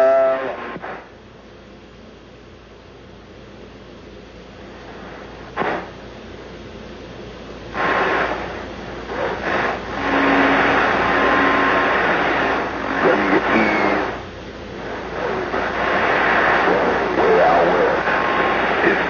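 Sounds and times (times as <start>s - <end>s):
radio static hiss: 0.0s - 1.3s, 3.5s - 19.0s.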